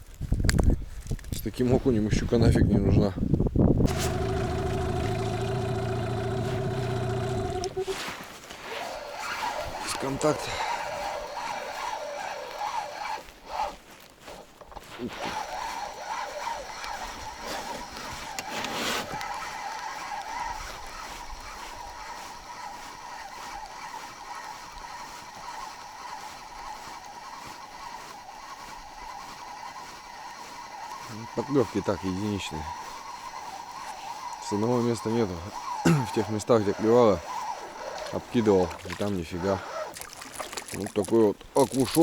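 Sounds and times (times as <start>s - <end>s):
outboard motor running: 3.8s - 8.0s, 8.9s - 13.2s, 15.1s - 42.0s.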